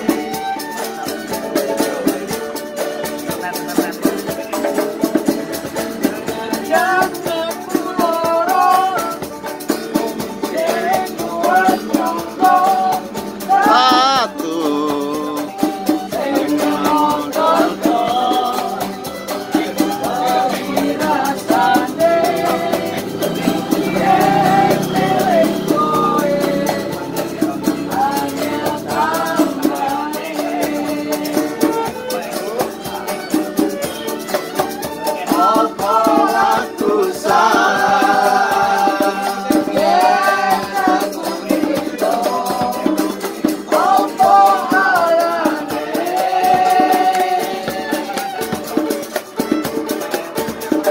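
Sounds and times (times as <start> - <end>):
person singing: 0.0 - 49.2
guitar: 0.0 - 50.9.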